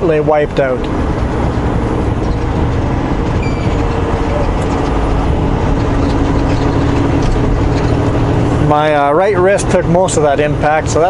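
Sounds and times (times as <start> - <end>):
truck engine and road noise drone: 0.0 - 11.0.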